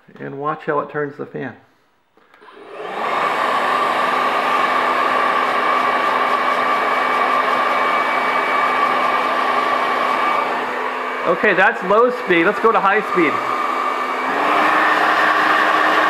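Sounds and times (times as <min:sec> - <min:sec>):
hair dryer running: 0:02.3 - 0:16.0.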